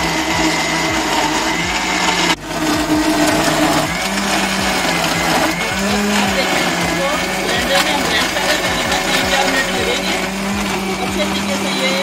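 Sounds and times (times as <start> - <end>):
blender running with ice: 0.0 - 12.0.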